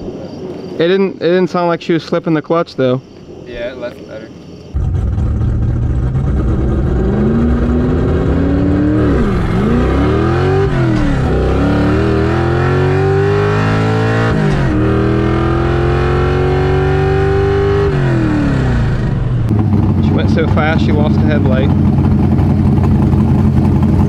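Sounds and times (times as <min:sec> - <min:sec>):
car engine revving: 0:04.7 - 0:24.0.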